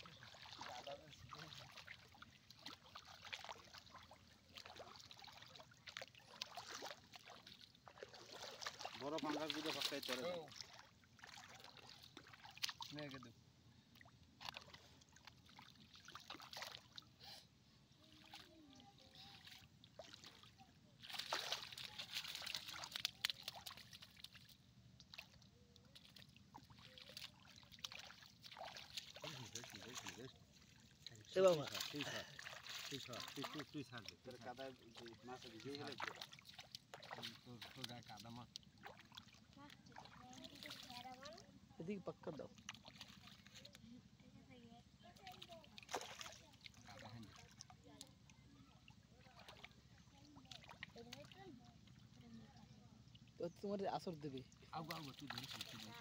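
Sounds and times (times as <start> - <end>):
feet wading through water: 0.0 - 56.0
shallow water splashing: 0.0 - 56.0.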